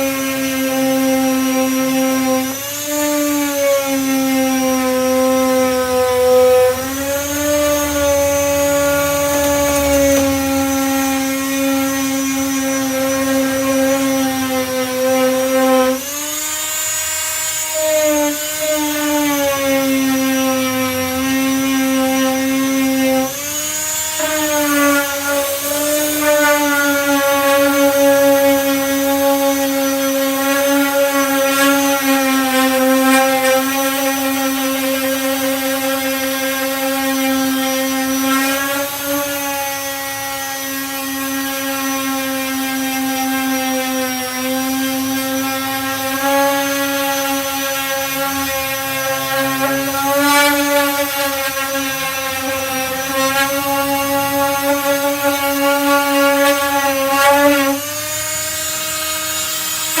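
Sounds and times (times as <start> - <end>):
disc sander whine: 0.0 - 60.0.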